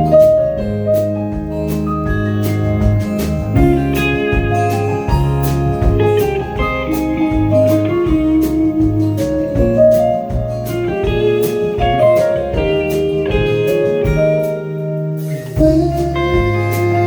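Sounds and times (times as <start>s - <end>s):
bass: 0.0s - 17.0s
drums keeping a steady beat: 0.0s - 17.0s
guitar lead melody: 0.0s - 17.0s.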